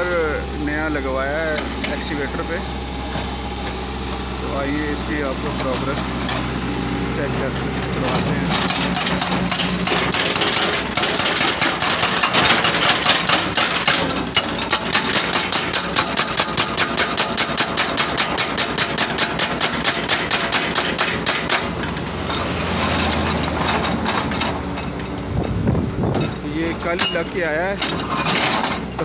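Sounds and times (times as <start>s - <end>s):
diesel engine running: 0.0s - 29.0s
hydraulic breaker pounding rock: 0.0s - 29.0s.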